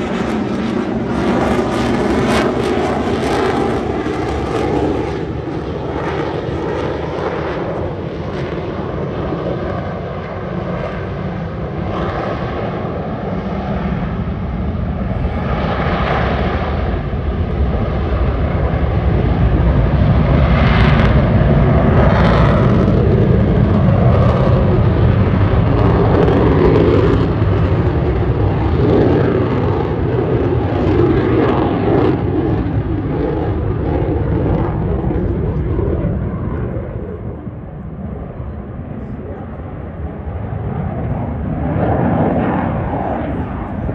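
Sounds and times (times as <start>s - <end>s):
fighter jet roaring past: 0.0s - 43.9s.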